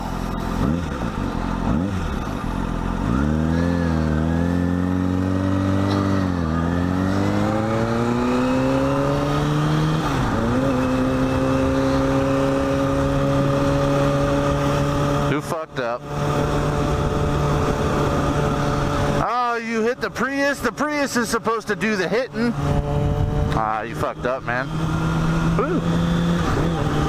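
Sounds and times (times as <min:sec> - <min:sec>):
motorcycle engine accelerating: 0:00.0 - 0:27.0
wind and road noise: 0:00.0 - 0:27.0.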